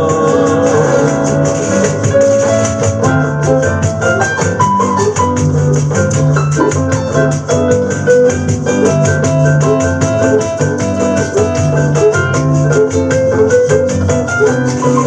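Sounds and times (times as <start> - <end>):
bass: 0.0 - 15.0
guitar: 0.0 - 15.0
piano melody: 0.0 - 15.0
steady percussion: 0.0 - 15.0.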